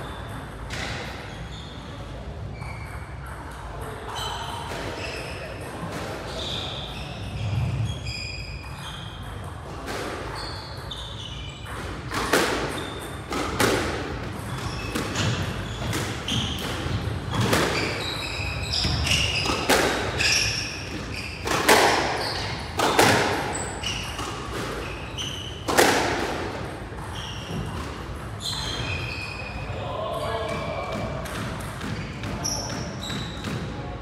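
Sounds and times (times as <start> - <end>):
squash ball hitting rackets and walls: 0.0 - 1.5, 2.6 - 33.9
shoes squeaking on court floor: 0.0 - 33.9.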